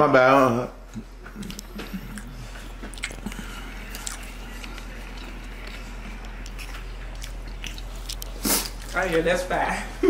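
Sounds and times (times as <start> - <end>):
person chewing food: 0.8 - 9.3.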